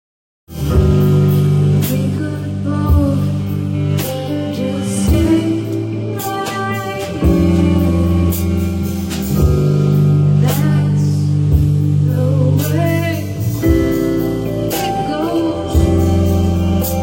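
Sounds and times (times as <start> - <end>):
rock music with guitar and drums: 0.5 - 17.0.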